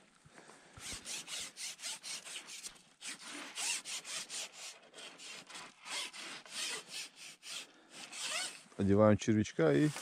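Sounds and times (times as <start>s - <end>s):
scratchy rustling and scraping strokes: 0.8s - 8.9s.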